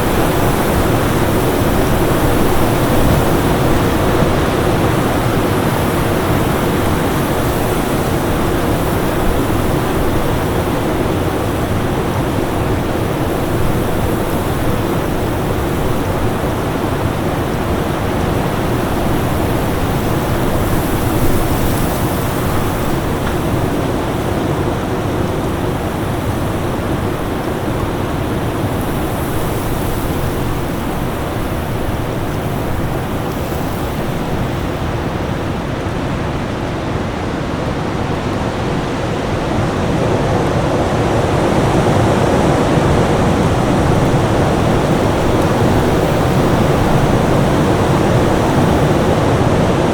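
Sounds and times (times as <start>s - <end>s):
rushing storm wind: 0.0s - 49.9s.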